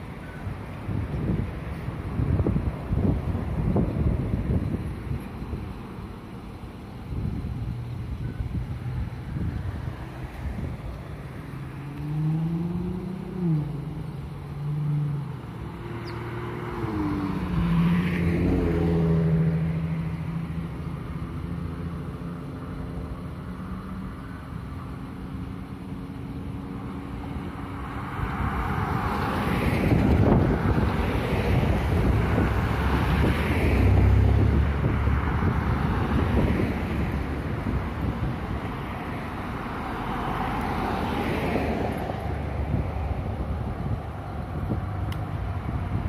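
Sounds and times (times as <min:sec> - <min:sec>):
rush of passing traffic: 0:00.0 - 0:46.0
engines accelerating: 0:08.8 - 0:46.0.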